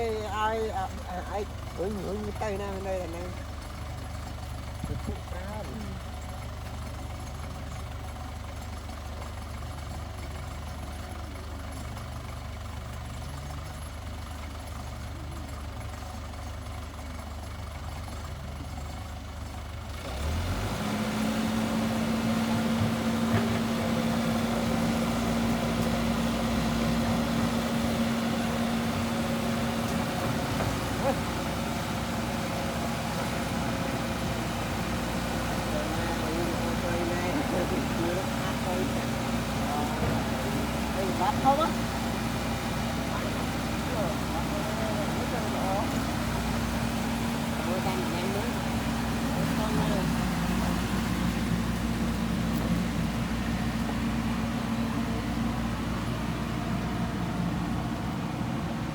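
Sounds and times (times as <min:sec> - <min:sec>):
heavy diesel engine idling: 0:00.0 - 0:58.9.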